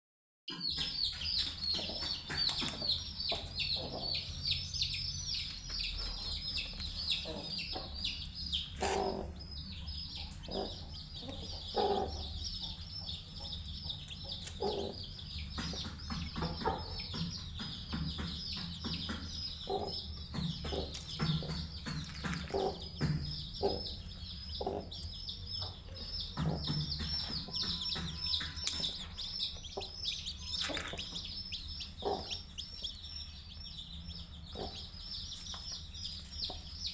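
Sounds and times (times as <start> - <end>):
chicks peeping: 0.5 - 36.9
hen clucking: 0.8 - 33.2.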